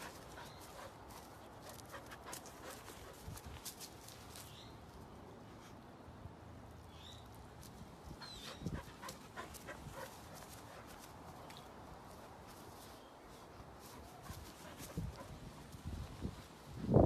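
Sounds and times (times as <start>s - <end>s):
clicks and rustles in grass: 0.0s - 5.7s, 7.0s - 17.0s.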